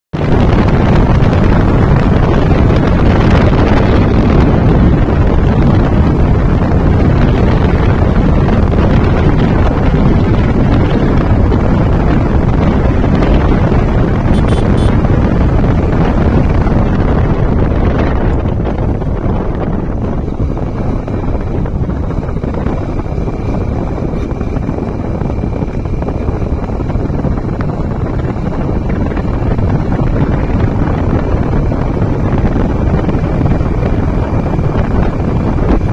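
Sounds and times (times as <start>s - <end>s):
wind rush over microphone: 0.1s - 35.9s
motorcycle engine: 0.2s - 35.9s.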